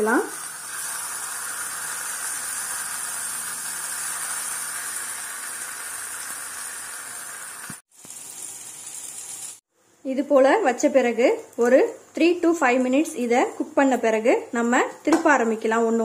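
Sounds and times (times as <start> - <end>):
eggplant slices sizzling in oil: 0.0 - 14.3.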